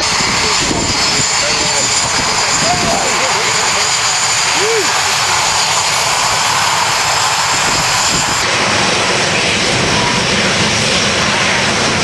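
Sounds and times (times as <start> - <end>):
high whine: 0.0 - 12.0
jet engines roaring: 0.0 - 12.0.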